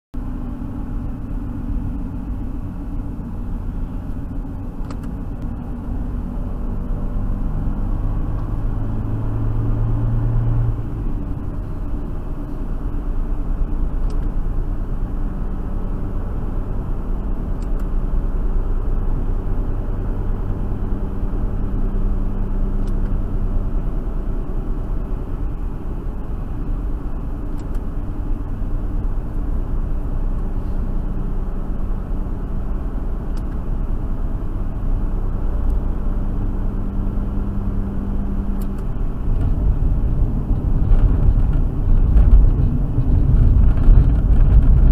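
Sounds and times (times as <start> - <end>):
car engine hum: 0.2 - 44.9
tyre and road noise: 0.2 - 44.9.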